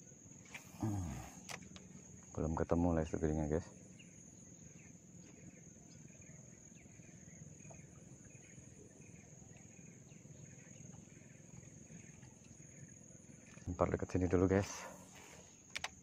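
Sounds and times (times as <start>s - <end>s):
high-pitched insect drone: 0.0s - 15.6s.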